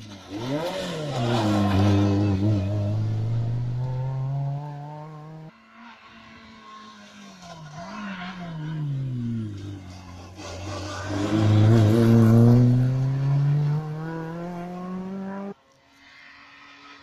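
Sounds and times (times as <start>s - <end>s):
rally car engine accelerating: 0.0s - 15.6s.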